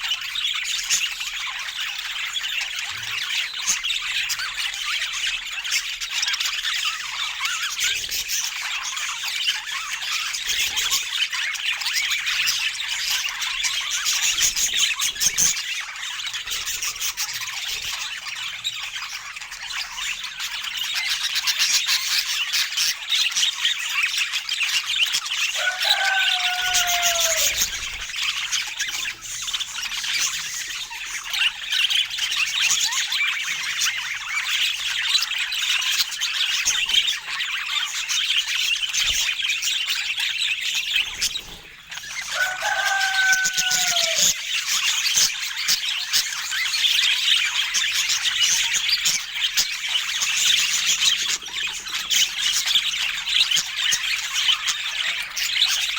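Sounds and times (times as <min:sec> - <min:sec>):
budgerigars chattering and warbling: 0:00.0 - 0:55.9.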